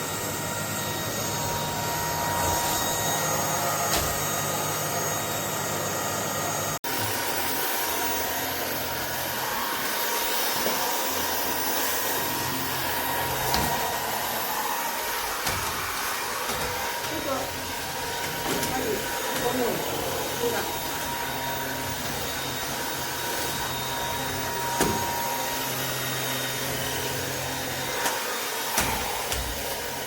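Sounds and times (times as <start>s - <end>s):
stick vacuum running: 0.0s - 30.0s.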